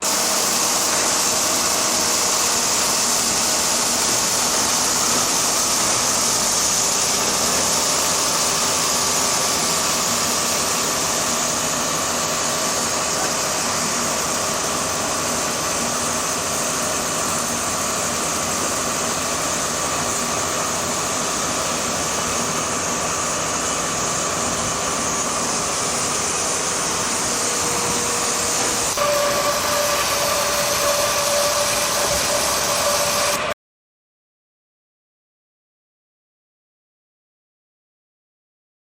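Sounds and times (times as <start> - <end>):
wire saw cutting stone: 0.0 - 33.6.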